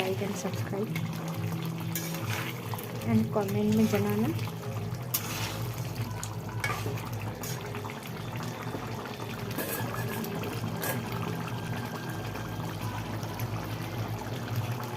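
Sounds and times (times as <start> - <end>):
curry bubbling in a pan: 0.0 - 14.9.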